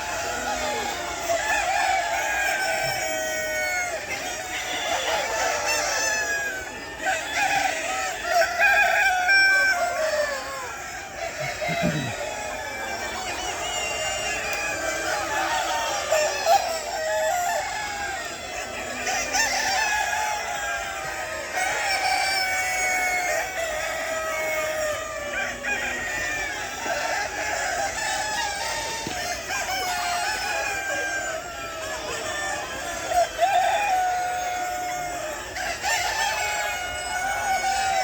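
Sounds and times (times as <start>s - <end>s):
hens clucking: 0.0s - 38.0s
roosters crowing: 0.0s - 38.0s.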